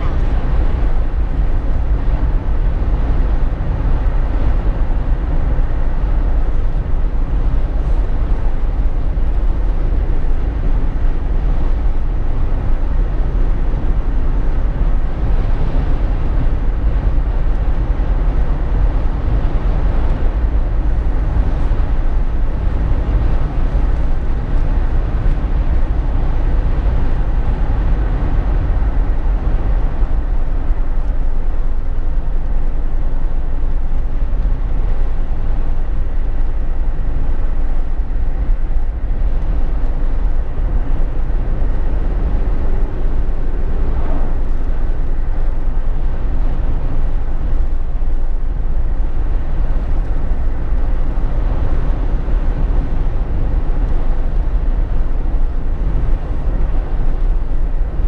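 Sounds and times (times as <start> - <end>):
car cabin road noise: 0.0 - 58.0.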